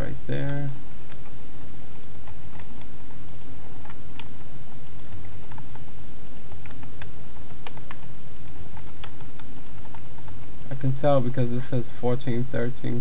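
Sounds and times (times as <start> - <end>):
low hum: 0.0 - 13.0
keyboard and mouse clicking: 0.4 - 10.9.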